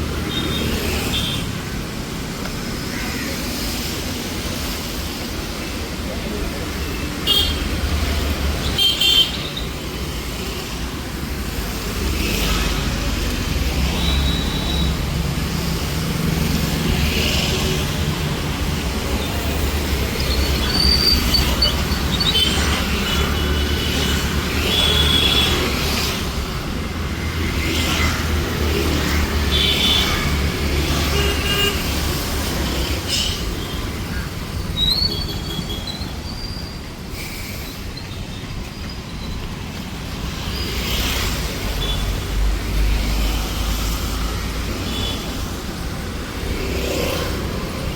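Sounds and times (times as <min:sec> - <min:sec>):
busy street traffic: 0:00.0 - 0:47.9.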